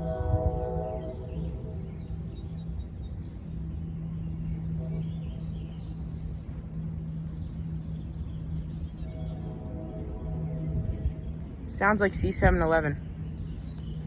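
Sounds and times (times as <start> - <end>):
birds chirping faintly: 0.0 - 14.0
distant freight train rumble: 0.0 - 14.0.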